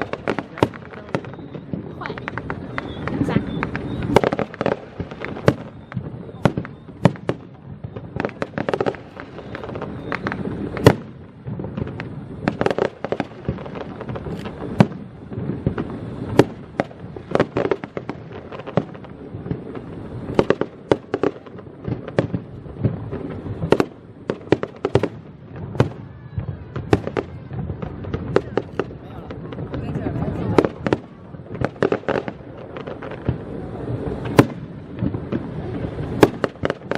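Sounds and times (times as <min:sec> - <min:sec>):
crackle and echoing booms: 0:00.0 - 0:36.9
fireworks sharp bangs: 0:00.0 - 0:36.9.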